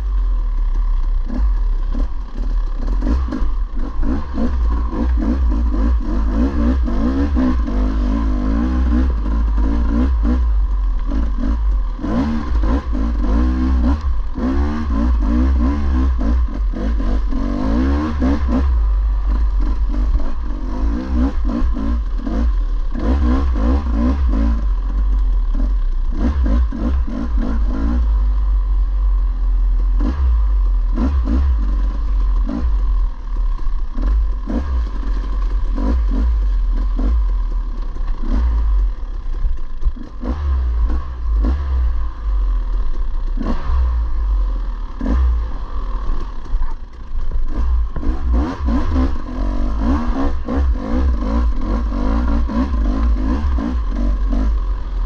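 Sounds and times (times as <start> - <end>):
dirt bike engine revving: 1.2 - 28.4, 29.8 - 55.0.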